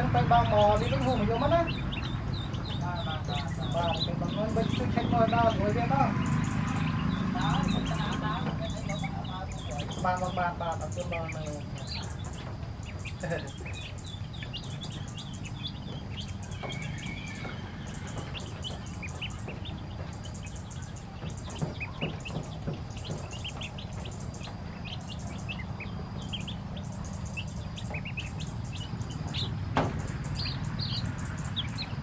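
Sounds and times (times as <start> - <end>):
ducklings and chicks peeping: 0.0 - 32.0
low background rumble: 0.0 - 32.0.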